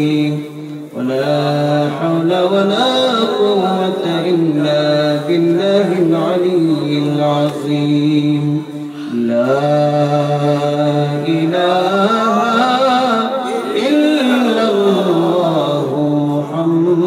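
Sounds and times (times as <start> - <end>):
man singing devotional song: 0.0 - 17.0.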